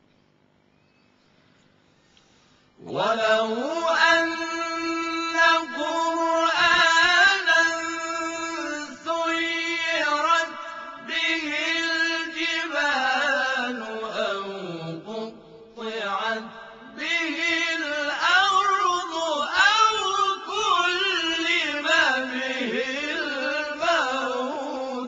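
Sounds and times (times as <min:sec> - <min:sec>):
men chanting in chorus: 0:02.8 - 0:25.0.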